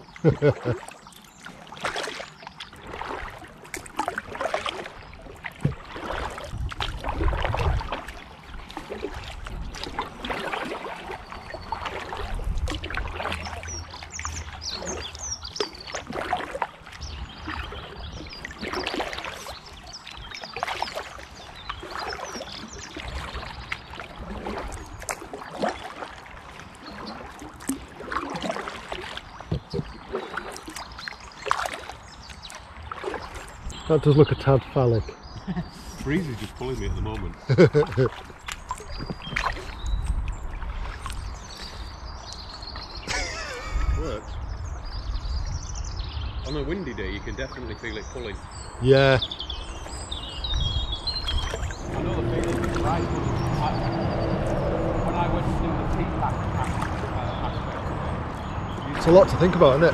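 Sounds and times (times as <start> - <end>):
water dripping off paddle: 0.0 - 43.6, 49.0 - 59.9
kayak paddle splashing water: 0.0 - 46.1, 46.7 - 59.9.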